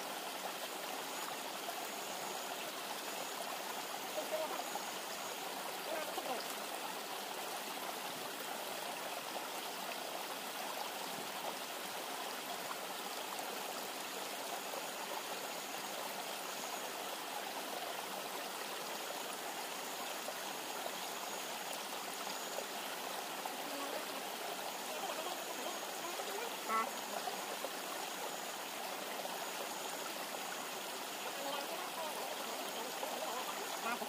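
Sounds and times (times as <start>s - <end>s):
river flowing: 0.0s - 34.0s.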